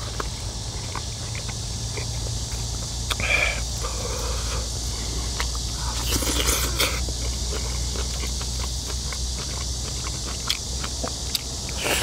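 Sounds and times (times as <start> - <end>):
chewing and wet smacks: 0.0 - 3.3, 5.2 - 12.0
steady low hum: 0.0 - 12.0.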